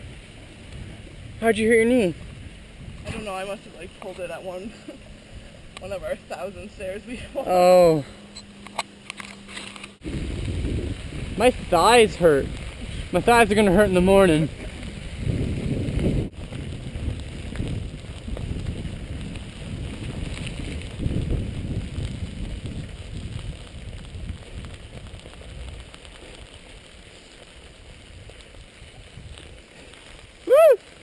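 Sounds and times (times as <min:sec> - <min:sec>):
wind buffeting microphone: 0:00.0 - 0:08.4, 0:10.0 - 0:30.8
bicycle road noise: 0:00.0 - 0:31.0.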